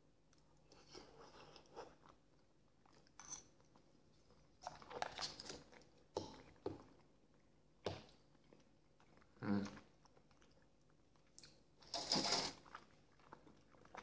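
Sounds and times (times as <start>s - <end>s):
mouth chewing food: 0.3s - 14.0s.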